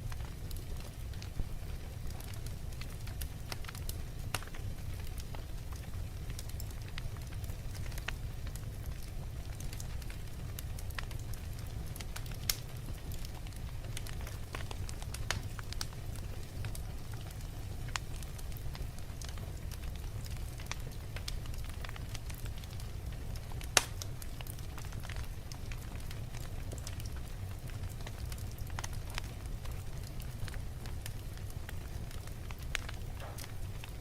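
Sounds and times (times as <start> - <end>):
fire crackling: 0.0 - 34.0.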